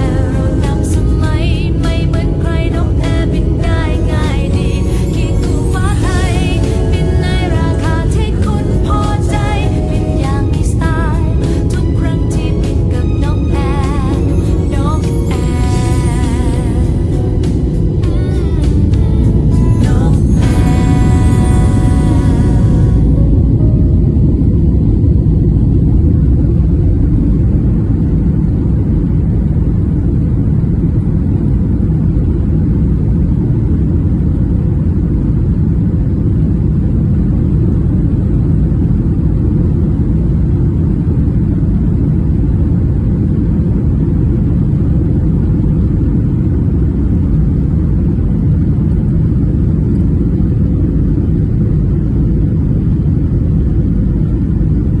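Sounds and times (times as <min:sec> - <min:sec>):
airliner cabin rumble: 0:00.0 - 0:55.0
faint steady hum: 0:00.0 - 0:55.0.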